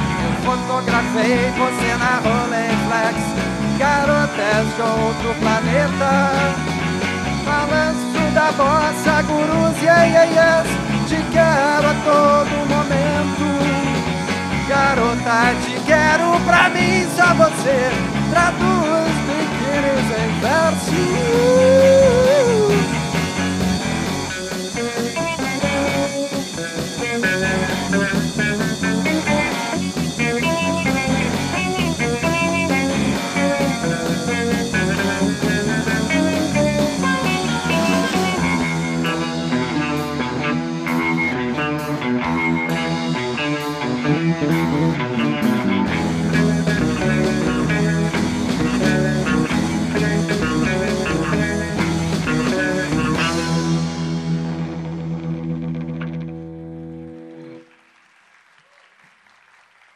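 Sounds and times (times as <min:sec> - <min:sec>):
rock band playing instrumental: 0:00.0 - 0:57.7.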